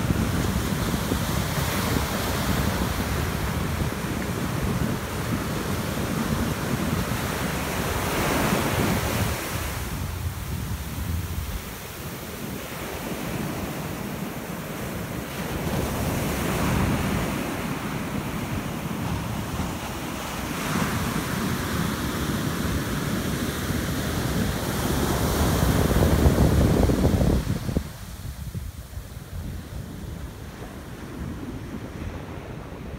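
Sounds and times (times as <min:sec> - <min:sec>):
ocean surf breaking: 0:00.0 - 0:28.1
wind rumbling on microphone: 0:00.0 - 0:32.9.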